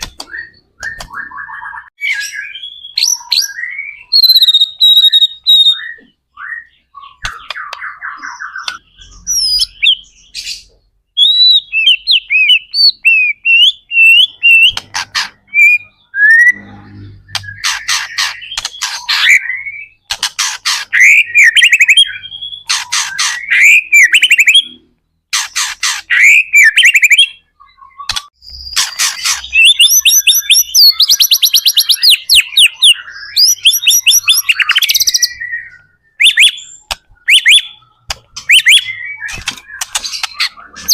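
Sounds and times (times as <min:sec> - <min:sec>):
bird singing whistles and trills: 0:00.0 - 0:14.8, 0:15.4 - 0:20.1, 0:20.9 - 0:24.8, 0:26.1 - 0:40.9.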